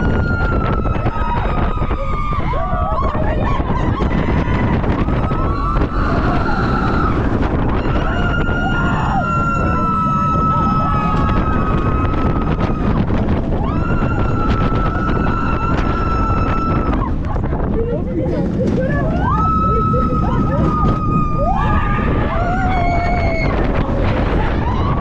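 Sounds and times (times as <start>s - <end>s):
riders screaming: 0.0s - 17.2s, 18.7s - 25.0s
roller coaster train rumbling: 0.0s - 25.0s
wind on microphone: 0.0s - 25.0s.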